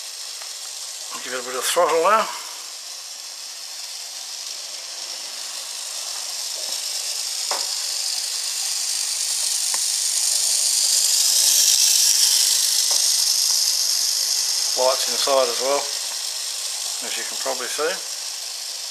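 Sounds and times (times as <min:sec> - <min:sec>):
model trolley motor whirring: 0:00.0 - 0:18.9.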